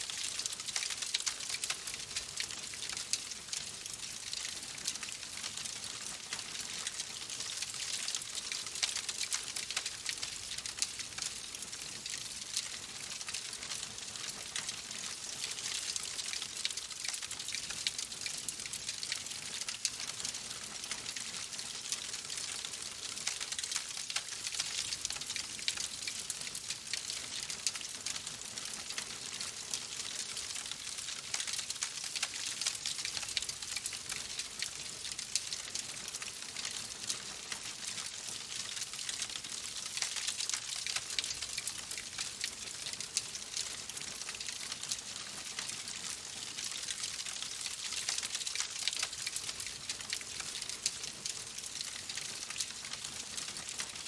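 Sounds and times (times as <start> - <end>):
logs burning with crackles: 0.1 - 53.9.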